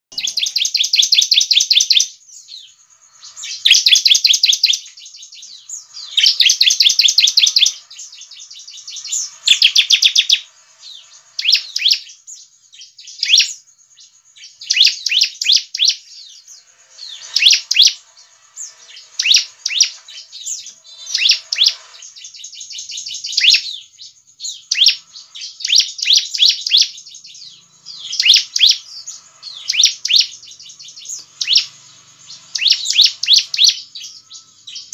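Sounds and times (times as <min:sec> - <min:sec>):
bird singing rapid trills: 0:00.1 - 0:34.9.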